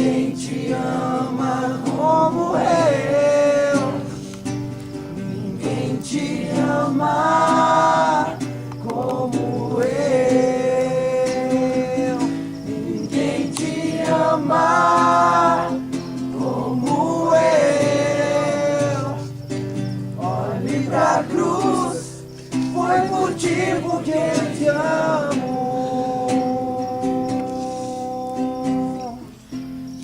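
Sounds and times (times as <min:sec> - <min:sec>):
person singing slow song: 0:00.0 - 0:29.7
music: 0:00.0 - 0:30.0.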